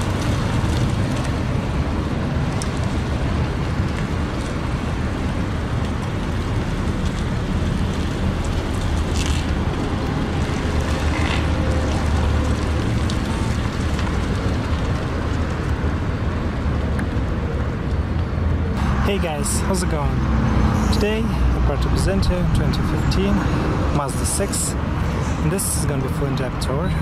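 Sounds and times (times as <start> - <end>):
road traffic: 0.0 - 27.0
wind: 0.0 - 27.0.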